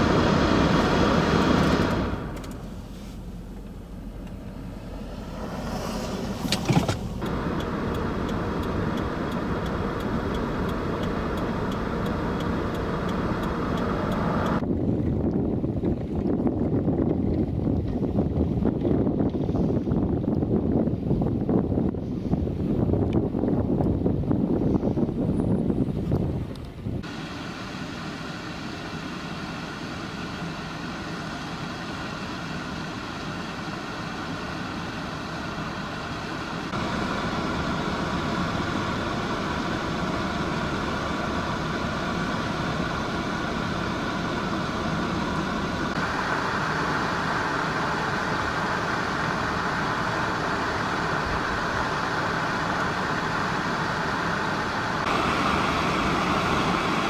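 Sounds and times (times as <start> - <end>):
blizzard wind: 0.0 - 3.4, 4.5 - 57.0
vehicle running: 0.0 - 20.4, 21.4 - 57.0.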